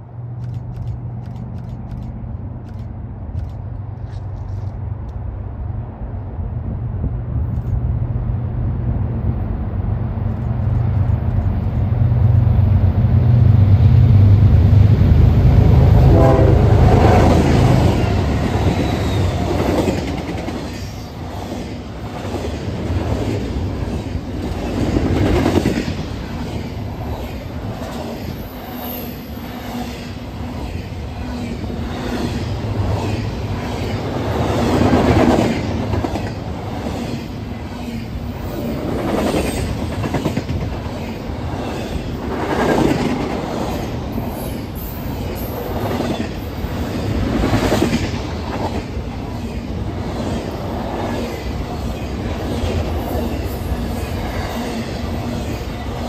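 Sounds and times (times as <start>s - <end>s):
diesel locomotive engines humming: 0.0s - 56.0s.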